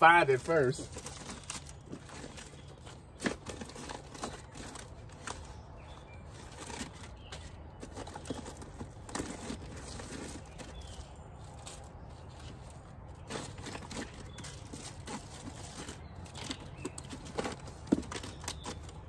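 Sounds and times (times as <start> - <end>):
plastic crinkling and rustling: 0.2 - 19.0.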